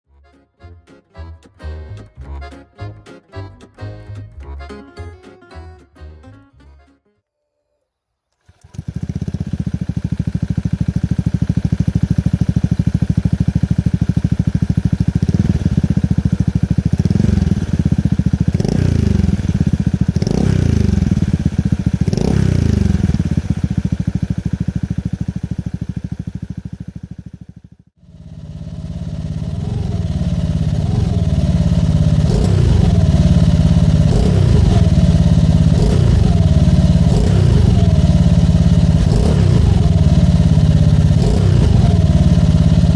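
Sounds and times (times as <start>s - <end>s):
motorcycle engine revving: 8.4s - 42.9s.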